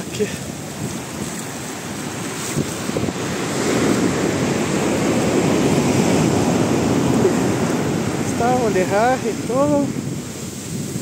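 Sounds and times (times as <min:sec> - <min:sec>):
surf breaking on shore: 0:00.0 - 0:11.0.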